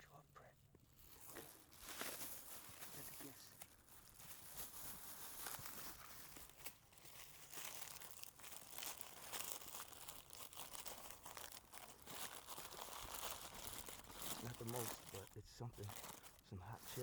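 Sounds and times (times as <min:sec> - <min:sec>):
plastic wrappers crinkling: 0:00.8 - 0:17.0.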